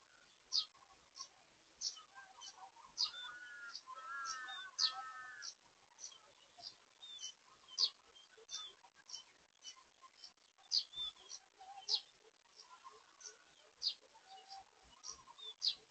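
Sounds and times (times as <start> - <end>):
bird warbling song: 0.0 - 15.9
birds chirping: 0.0 - 15.9.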